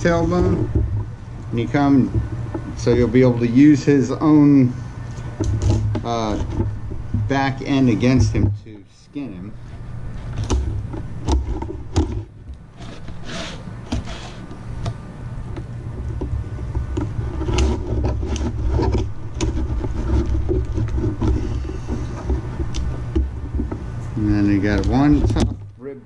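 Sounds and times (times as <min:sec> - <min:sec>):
steady low rumble: 0:00.0 - 0:12.8, 0:14.5 - 0:26.0.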